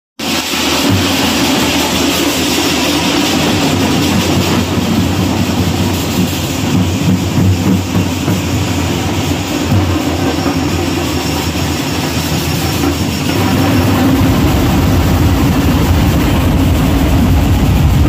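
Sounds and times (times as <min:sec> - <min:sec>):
large drums rolling beat: 0:00.2 - 0:18.0.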